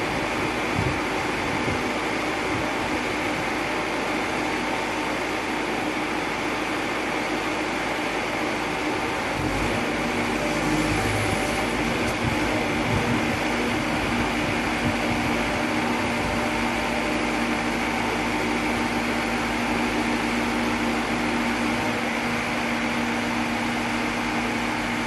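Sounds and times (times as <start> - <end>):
auger drilling rig humming: 0.0 - 25.0.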